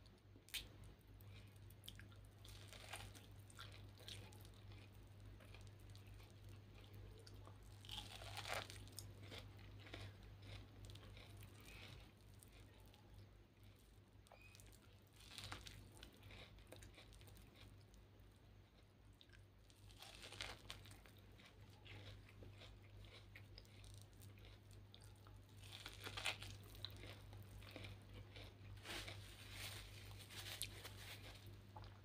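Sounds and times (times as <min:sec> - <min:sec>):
faint low hum: 0:00.0 - 0:32.0
chewing and biting corn: 0:00.5 - 0:18.0, 0:18.6 - 0:32.0.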